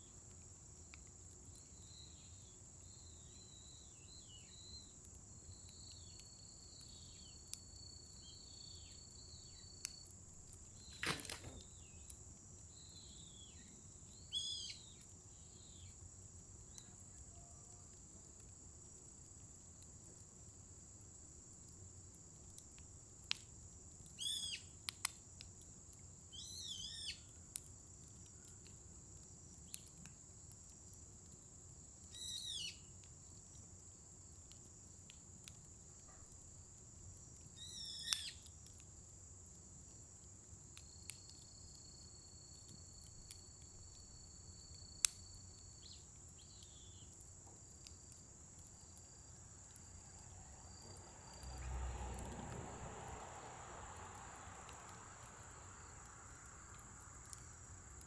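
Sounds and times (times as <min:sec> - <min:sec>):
high insect chorus: 0:00.0 - 0:22.4, 0:23.0 - 0:24.8, 0:26.2 - 0:30.8, 0:31.6 - 0:58.0
wood fire crackling: 0:00.0 - 0:58.0.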